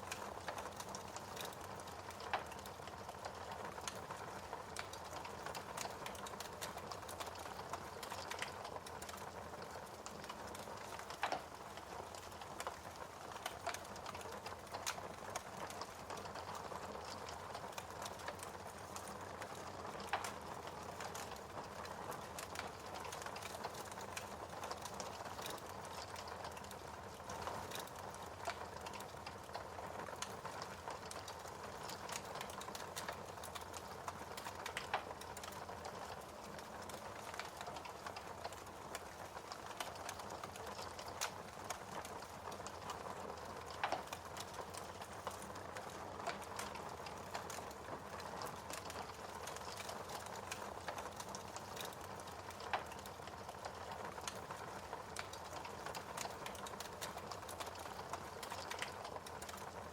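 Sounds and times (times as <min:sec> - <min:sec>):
wood fire crackling: 0:00.0 - 0:59.9
loud fire snaps: 0:00.1 - 0:59.9.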